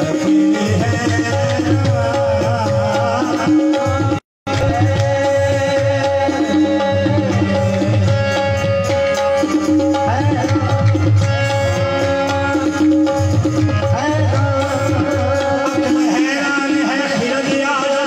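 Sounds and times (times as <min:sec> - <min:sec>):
harmonium melody: 0:00.0 - 0:18.0
tabla rhythm: 0:00.0 - 0:18.0.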